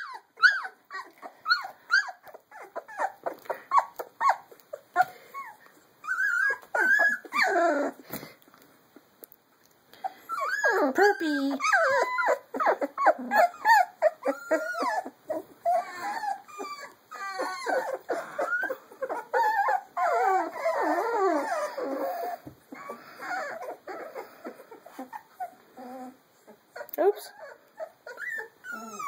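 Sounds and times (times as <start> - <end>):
puppies whining and squealing: 0.0 - 8.4, 10.0 - 29.0.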